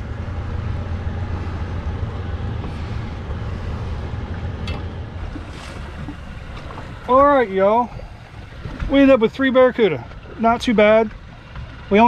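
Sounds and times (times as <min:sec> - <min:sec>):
outboard engine idling: 0:00.0 - 0:12.0.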